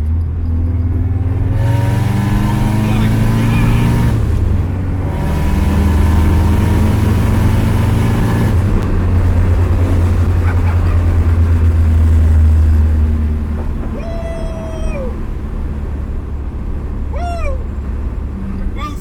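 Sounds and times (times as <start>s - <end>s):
car engine and exhaust drone: 0.0s - 19.0s.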